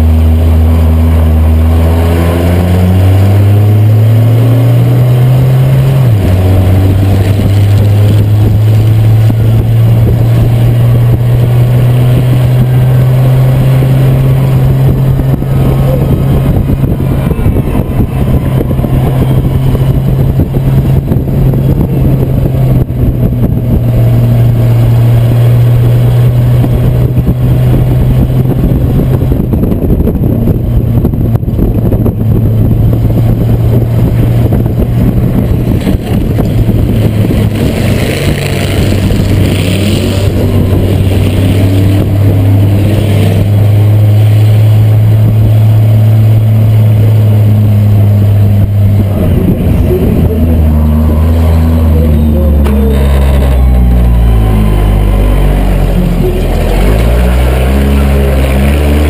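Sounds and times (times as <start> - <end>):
race car engine revving high: 0.0 - 59.0.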